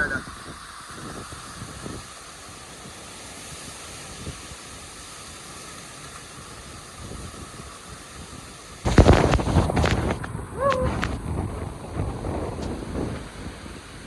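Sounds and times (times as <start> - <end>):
strong wind blowing: 0.0 - 4.5, 6.8 - 14.0.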